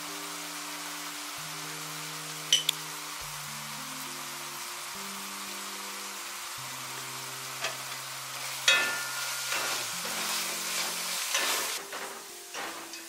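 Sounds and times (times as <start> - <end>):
meat sizzling in frying pan: 0.0 - 13.0.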